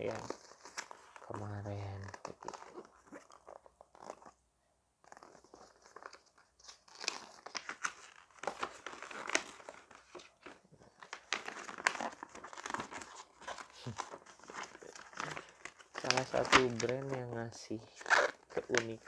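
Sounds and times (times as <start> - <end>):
paper crinkling and rustling: 0.0 - 4.4, 5.0 - 19.0.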